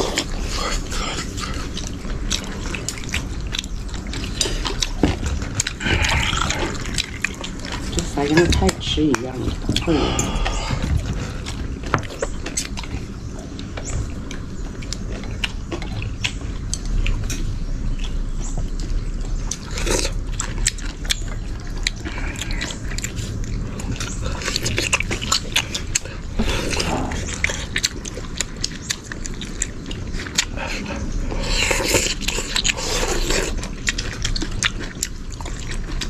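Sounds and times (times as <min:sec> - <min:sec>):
people chewing and biting: 0:00.0 - 0:36.0.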